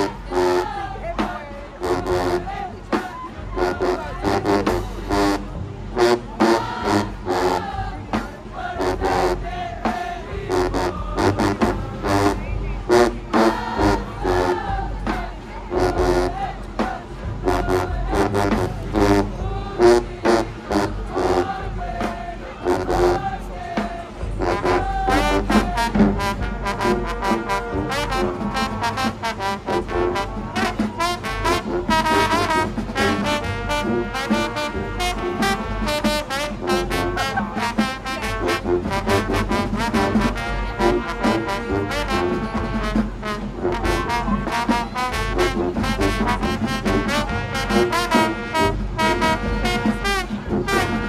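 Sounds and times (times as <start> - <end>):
marching band playing: 0.0 - 51.0
trombones and trumpets: 0.0 - 51.0.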